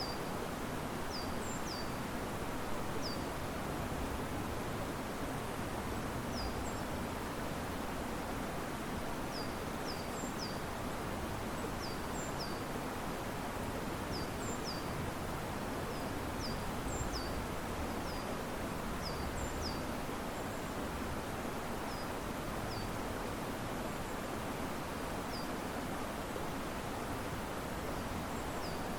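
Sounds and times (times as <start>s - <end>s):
river water rushing: 0.0s - 28.9s
wind in trees: 0.0s - 28.9s.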